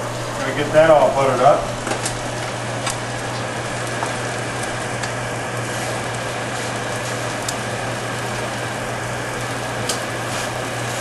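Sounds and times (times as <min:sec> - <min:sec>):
omelet sizzling in a pan: 0:00.0 - 0:11.0
steady low hum: 0:00.0 - 0:11.0
sharp crackles: 0:01.8 - 0:11.0.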